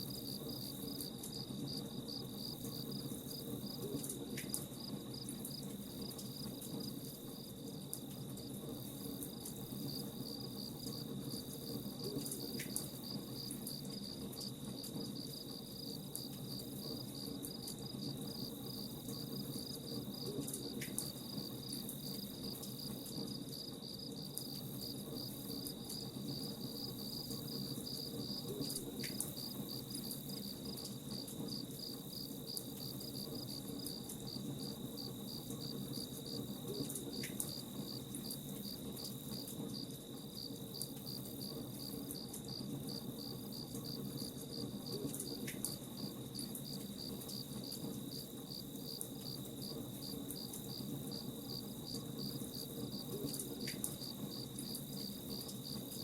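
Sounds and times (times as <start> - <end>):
crickets chirping: 0.0 - 4.1, 4.8 - 56.0.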